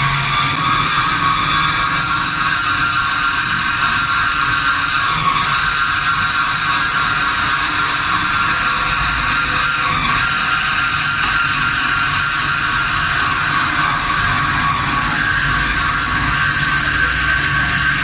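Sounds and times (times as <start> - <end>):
band saw blade whine: 0.0 - 18.0
low machine hum: 0.0 - 18.0.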